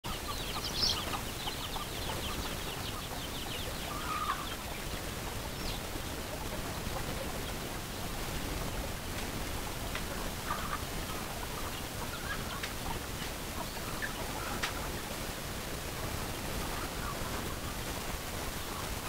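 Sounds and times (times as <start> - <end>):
chicks peeping: 0.0 - 19.0
chickens clucking: 0.1 - 19.0.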